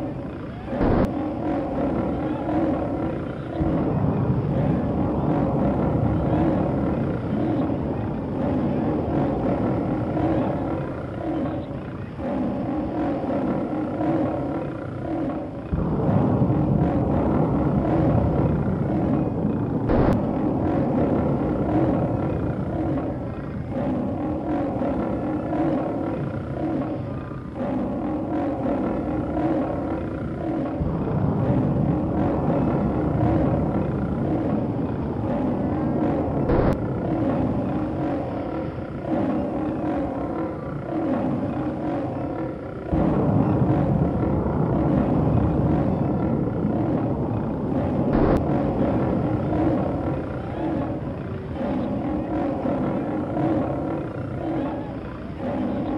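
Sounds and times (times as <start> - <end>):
deep engine rumble: 0.0 - 55.9.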